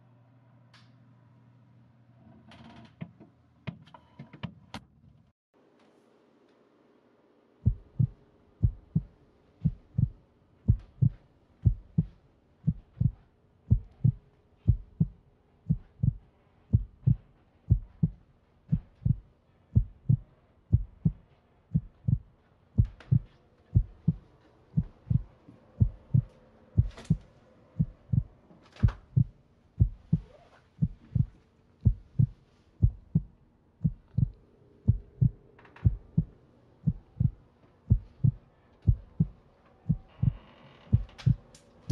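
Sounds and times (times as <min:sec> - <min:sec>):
faint steady hum: 0:05.6 - 0:41.9
heartbeat thumps: 0:07.6 - 0:41.4.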